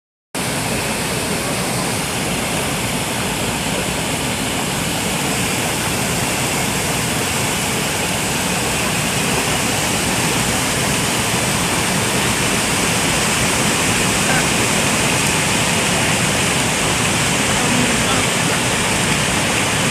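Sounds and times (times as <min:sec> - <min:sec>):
churning bubbling water: 0:00.4 - 0:19.9.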